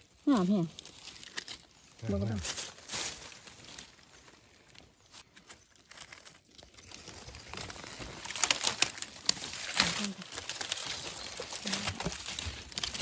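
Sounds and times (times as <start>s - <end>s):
dry leaves crackling and rustling: 0.0s - 13.0s.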